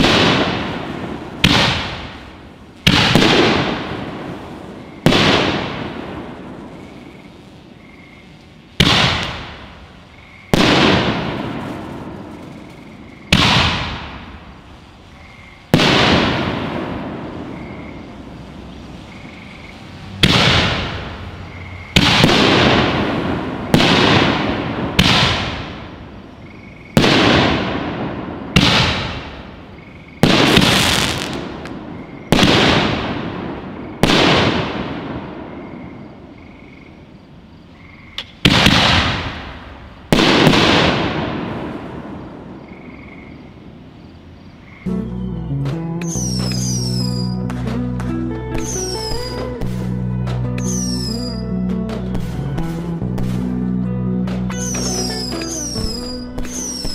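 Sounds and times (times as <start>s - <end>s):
firework shells bursting: 0.0s - 26.1s, 26.7s - 35.3s, 38.2s - 42.2s, 46.0s - 53.5s, 54.3s - 56.9s.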